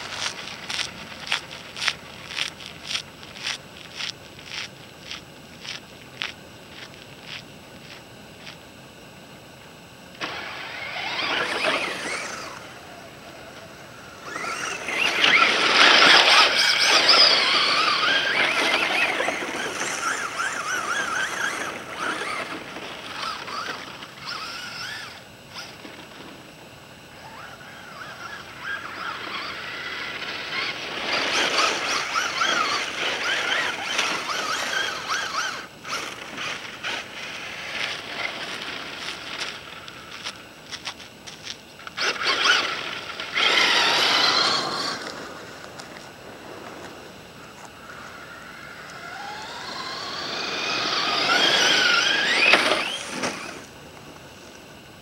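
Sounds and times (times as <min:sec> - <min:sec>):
toy truck motor whining: 0:00.0 - 0:08.6, 0:10.1 - 0:26.4, 0:27.1 - 0:46.0, 0:47.5 - 0:53.8
tyres on gravel: 0:00.0 - 0:55.0.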